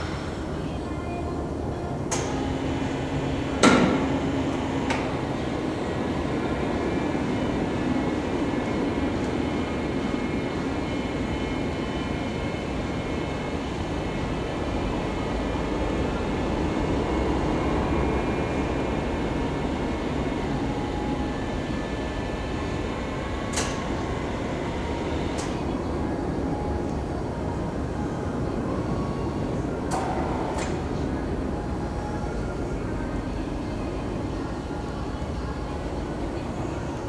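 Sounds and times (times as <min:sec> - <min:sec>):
drill press mechanical hum: 0:00.0 - 0:37.0.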